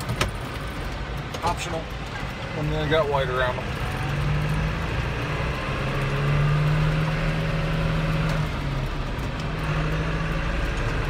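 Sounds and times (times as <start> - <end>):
tyre road noise: 0.0 - 11.0
vehicle engine hum: 0.0 - 11.0.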